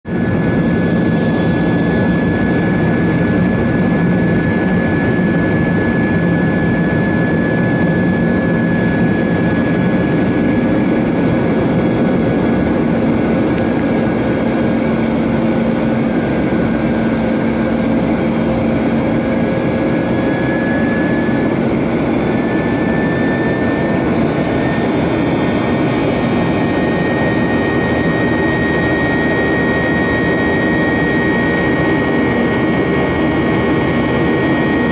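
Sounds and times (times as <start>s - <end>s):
airliner cabin engine roar: 0.0s - 34.9s.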